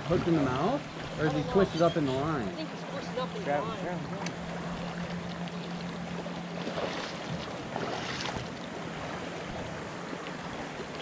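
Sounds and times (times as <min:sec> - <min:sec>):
water lapping: 0:00.0 - 0:11.0
water splashing: 0:00.0 - 0:11.0.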